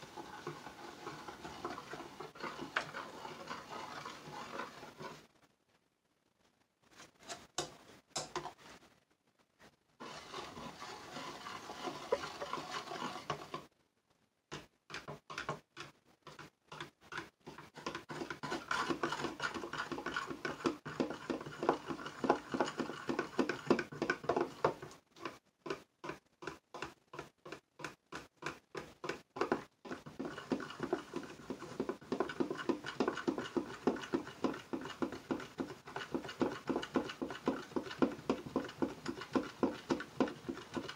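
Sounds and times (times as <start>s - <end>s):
metal spoon scraping plastic pitcher: 0.0s - 5.3s, 10.0s - 13.7s, 14.9s - 40.9s.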